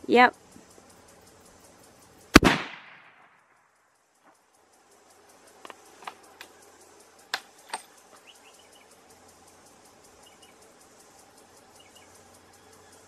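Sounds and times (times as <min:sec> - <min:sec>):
faint insect noise: 0:00.0 - 0:13.0
soft paired chirps: 0:00.1 - 0:02.3, 0:03.5 - 0:13.0.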